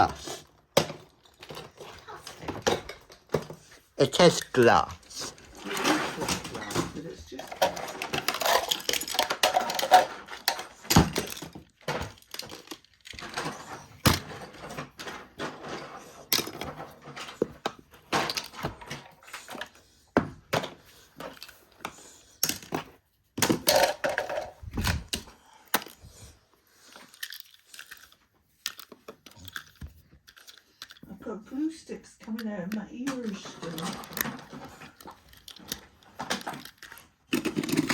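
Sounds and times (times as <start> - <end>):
small objects knocking and clattering: 0.0 - 37.9.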